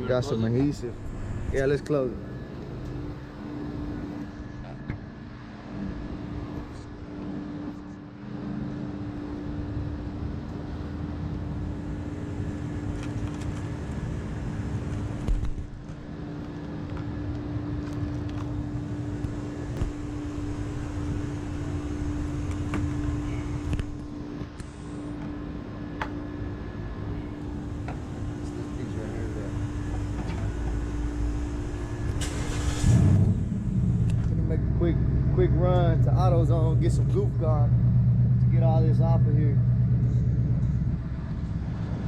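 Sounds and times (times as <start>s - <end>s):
car engine rumbling: 0.0s - 42.0s.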